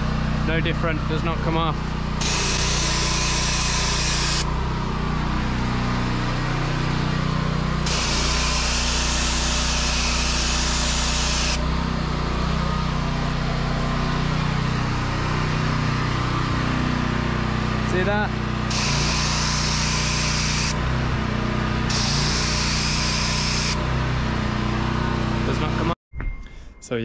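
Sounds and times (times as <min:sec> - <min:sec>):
pressure washer engine running: 0:00.0 - 0:25.9.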